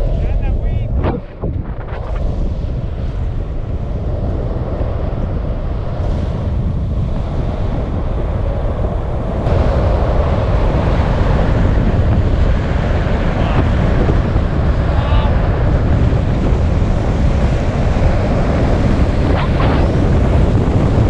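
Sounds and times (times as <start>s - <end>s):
wind rushing over microphone: 0.0s - 21.0s
longboard wheels rolling on asphalt: 1.5s - 21.0s.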